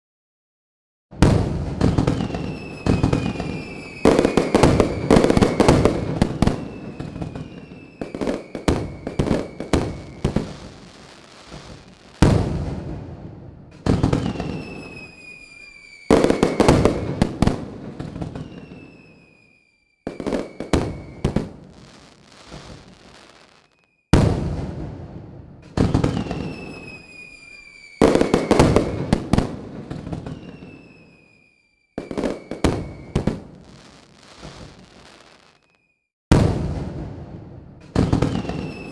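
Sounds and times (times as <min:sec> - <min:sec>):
fireworks cracks and bangs: 0:01.2 - 0:38.9
fireworks whistles falling: 0:01.7 - 0:12.6, 0:13.8 - 0:24.1, 0:25.7 - 0:36.1, 0:37.8 - 0:38.9.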